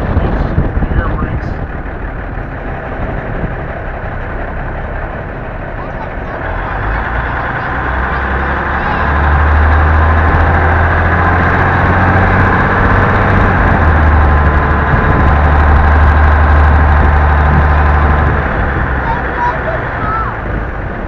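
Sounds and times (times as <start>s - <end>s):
truck diesel engine droning: 0.0s - 21.0s.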